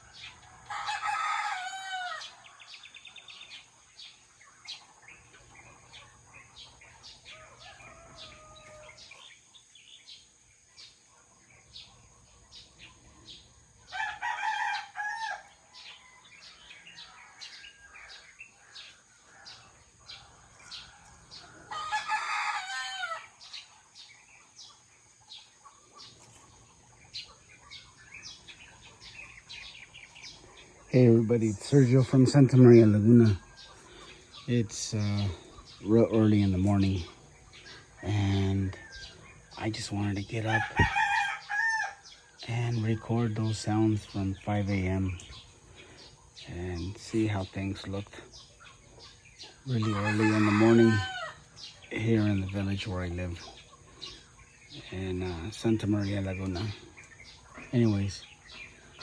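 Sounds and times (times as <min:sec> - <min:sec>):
roosters crowing: 0:00.0 - 0:59.0
small birds chirping: 0:00.0 - 0:59.0.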